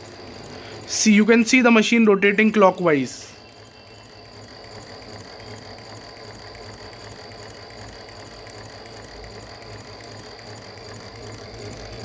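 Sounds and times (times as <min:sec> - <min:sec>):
embroidery machine humming and whining: 0:00.0 - 0:12.0.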